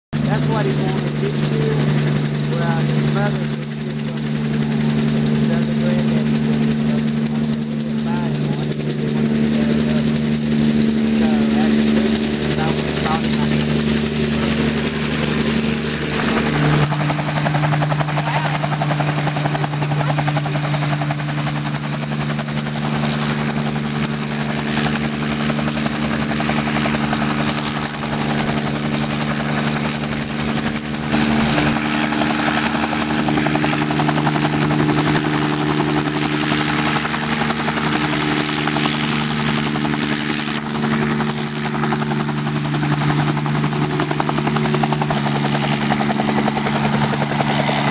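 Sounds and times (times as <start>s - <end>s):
helicopter engine and rotor: 0.1s - 47.9s.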